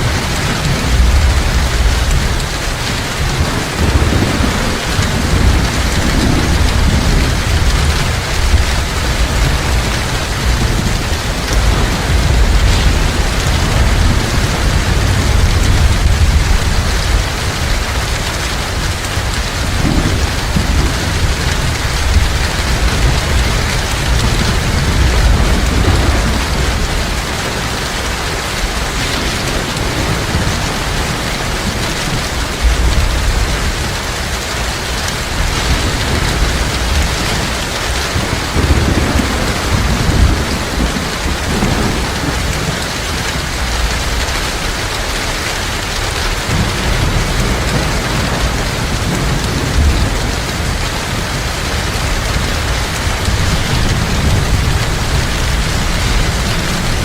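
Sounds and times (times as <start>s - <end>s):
heavy rain falling: 0.0s - 57.0s
low thunder rumbling: 0.0s - 57.0s.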